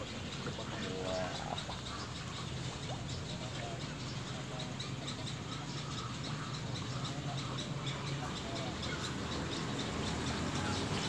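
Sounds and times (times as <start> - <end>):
birds chirping: 0.0 - 11.0
lower bird calls: 0.0 - 11.0.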